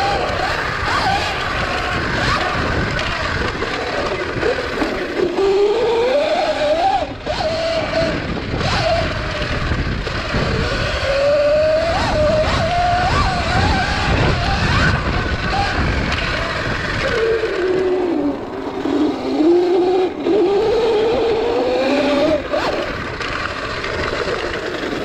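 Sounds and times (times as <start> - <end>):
electric motor whine: 0.0 - 25.0
wind buffeting microphone: 0.0 - 25.0.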